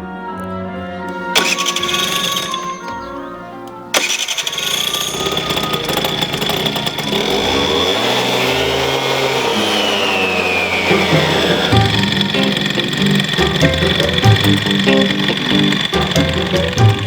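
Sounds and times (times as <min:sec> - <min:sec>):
scooter engine revving: 0:01.1 - 0:17.0.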